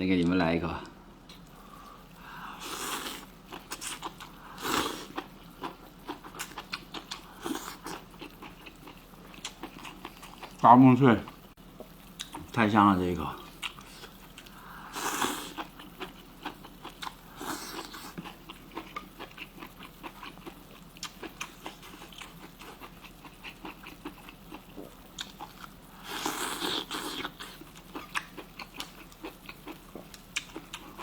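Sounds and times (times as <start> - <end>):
chewing crunchy food: 2.6 - 10.6, 11.2 - 12.6, 13.4 - 31.0.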